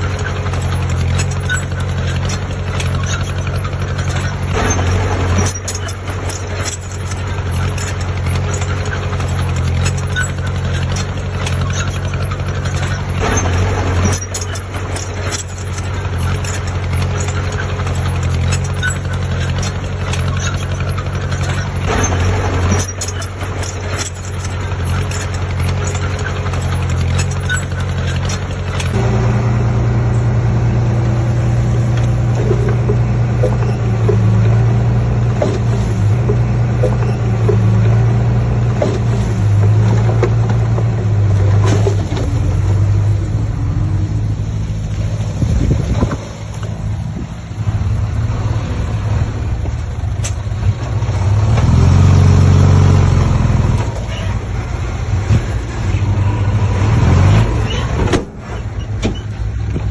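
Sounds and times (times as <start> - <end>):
heavy diesel engine running: 0.0 - 59.9
machinery clanking and rattling: 0.0 - 59.9.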